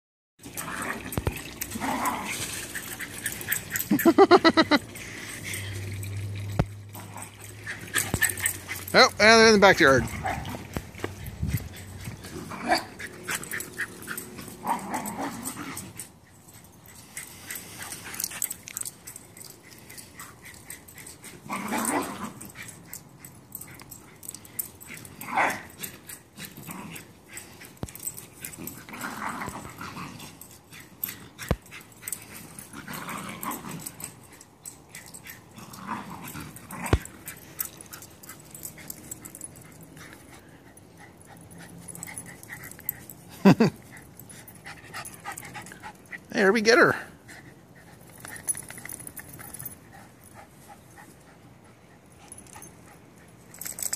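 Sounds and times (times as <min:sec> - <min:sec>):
dogs vocalizing while playing: 0:00.4 - 0:09.2, 0:10.0 - 0:46.3, 0:47.0 - 0:53.9.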